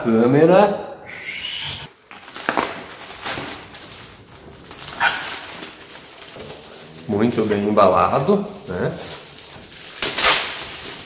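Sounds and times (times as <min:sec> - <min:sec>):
plastic bag crinkling and tearing: 0:01.9 - 0:11.0.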